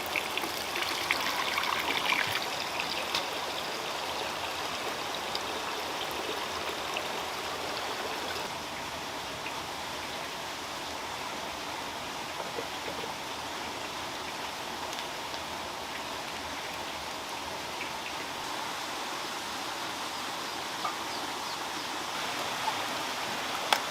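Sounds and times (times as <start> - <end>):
running water: 0.0 - 8.7, 12.3 - 23.9.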